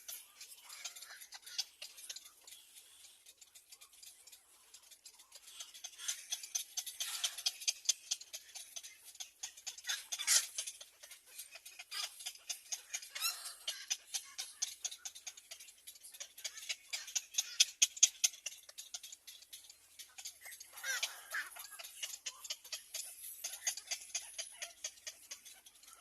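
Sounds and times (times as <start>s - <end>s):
birds ticking and rustling: 0.0s - 26.0s
high bird chirps: 0.0s - 26.0s.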